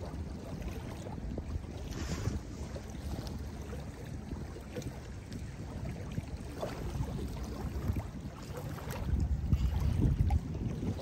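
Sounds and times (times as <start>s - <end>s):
waves lapping on shore: 0.0s - 11.0s.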